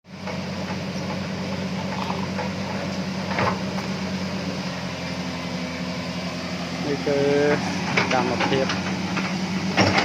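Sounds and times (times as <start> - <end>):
truck engine running: 0.1 - 10.0.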